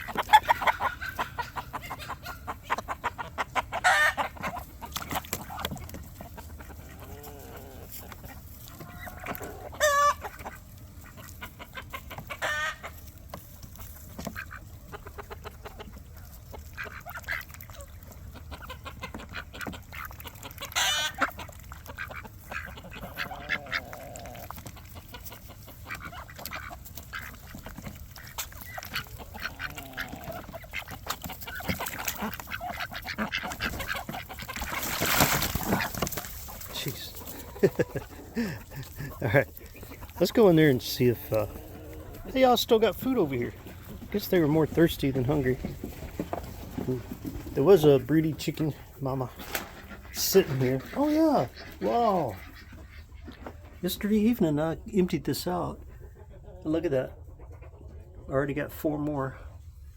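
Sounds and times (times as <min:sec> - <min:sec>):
ducks and chickens calling: 0:00.0 - 0:59.9.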